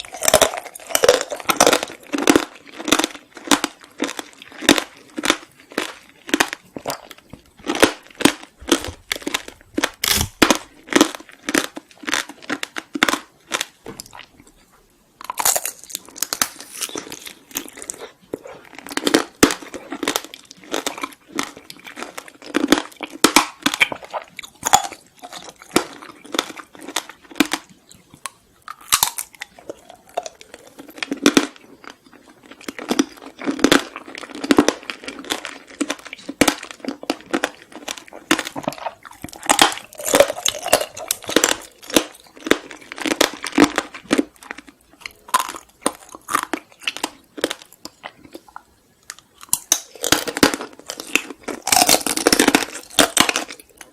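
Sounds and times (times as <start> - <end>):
crunching and chewing snacks: 0.0 - 53.9.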